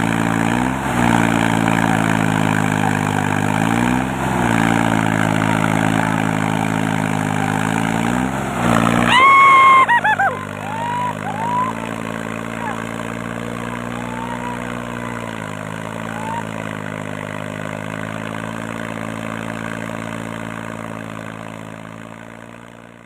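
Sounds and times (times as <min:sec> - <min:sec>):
tractor engine idling and revving: 0:00.0 - 0:23.0.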